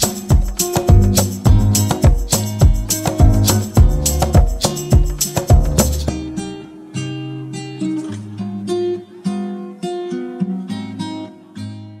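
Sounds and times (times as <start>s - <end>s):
acoustic guitar picking melody: 0.0s - 12.0s.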